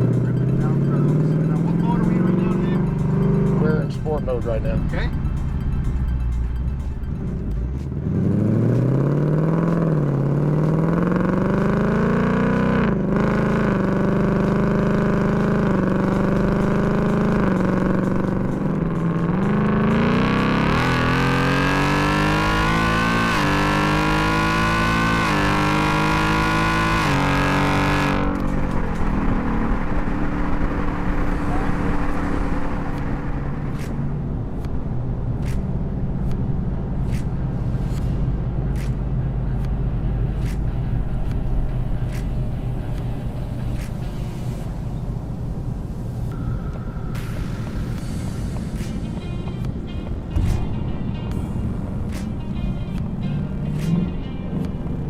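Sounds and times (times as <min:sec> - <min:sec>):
car engine accelerating and shifting: 0:00.0 - 0:55.0.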